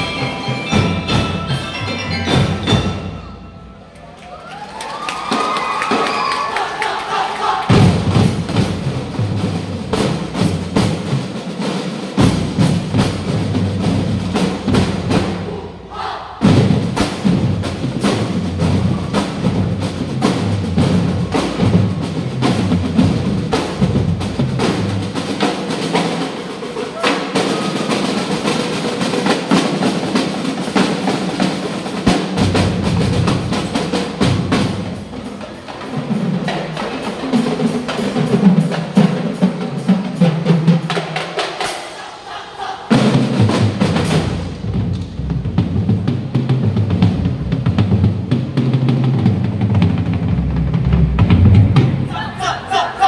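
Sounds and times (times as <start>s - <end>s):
drum and lyre band playing: 0.0s - 4.2s, 7.7s - 53.0s.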